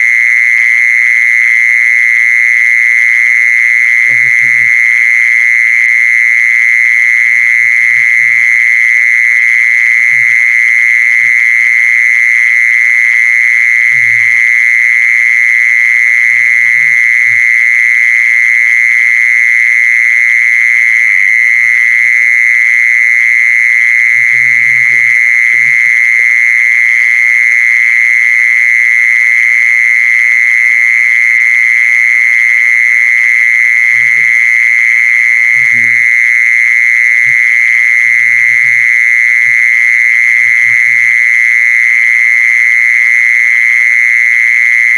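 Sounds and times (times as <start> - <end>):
insect buzzing call: 0.0 - 44.9.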